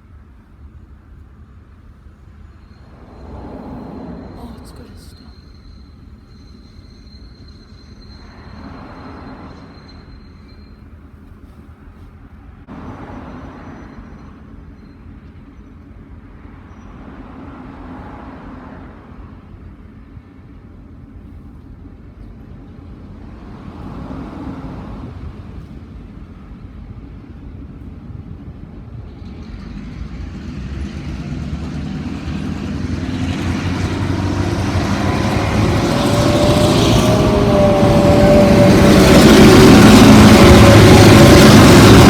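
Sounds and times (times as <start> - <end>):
diesel locomotive engine rumble: 0.0 - 42.0.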